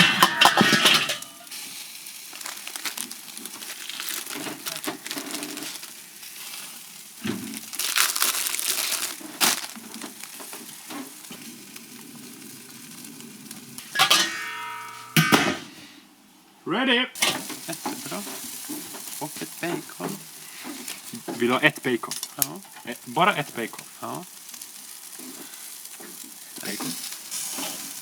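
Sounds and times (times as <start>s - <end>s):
food frying sizzle: 0.0s - 16.0s, 17.2s - 28.0s.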